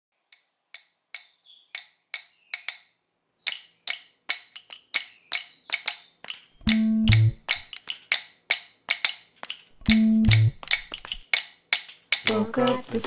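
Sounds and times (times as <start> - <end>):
dry percussion clicks: 0.3 - 13.0.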